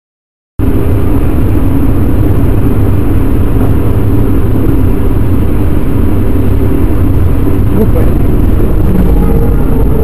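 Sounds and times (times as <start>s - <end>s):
road vehicle engine and road noise: 0.6s - 10.0s.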